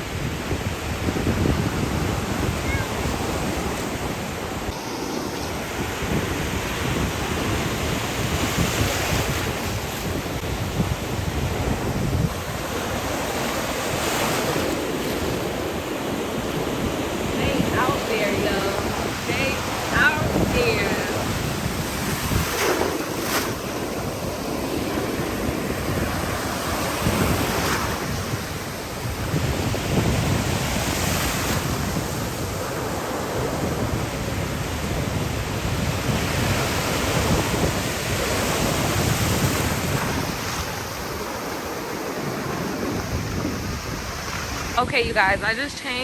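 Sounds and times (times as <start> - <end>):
waves breaking: 0.0 - 46.0
wind buffeting microphone: 0.0 - 46.0.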